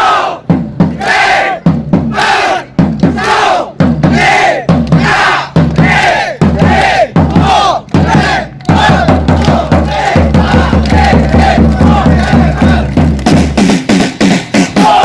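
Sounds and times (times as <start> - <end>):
shouted chant-like vocals: 0.0 - 13.2, 14.6 - 15.0
heavy bass beat music: 0.3 - 15.0.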